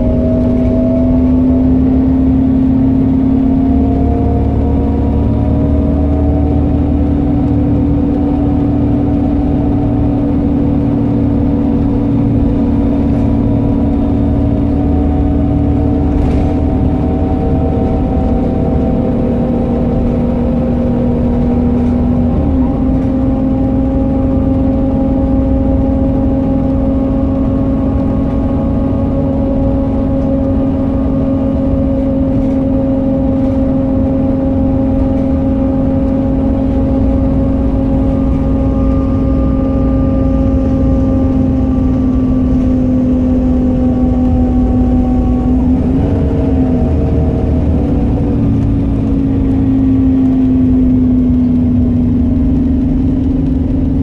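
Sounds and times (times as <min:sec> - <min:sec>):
bus drivetrain whine: 0:00.0 - 0:54.0
bus engine: 0:00.0 - 0:54.0
road rumble: 0:00.0 - 0:54.0.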